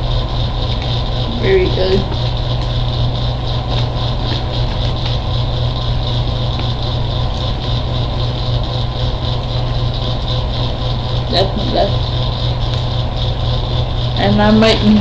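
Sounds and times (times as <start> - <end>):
low hum with high tones: 0.0 - 15.0.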